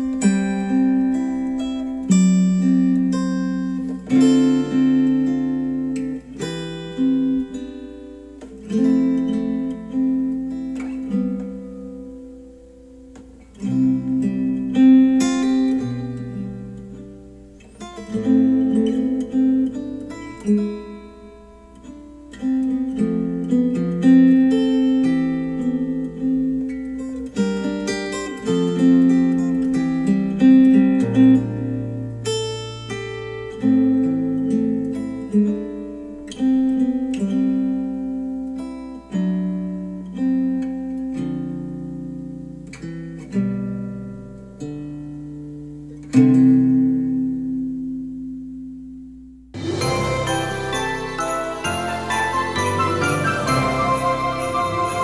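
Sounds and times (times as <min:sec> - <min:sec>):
acoustic guitar music through speakers: 0:00.0 - 0:55.0.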